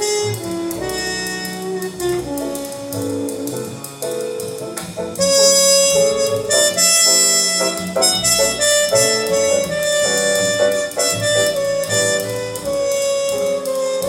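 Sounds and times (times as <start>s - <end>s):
plucked and bass accompaniment: 0.0s - 14.0s.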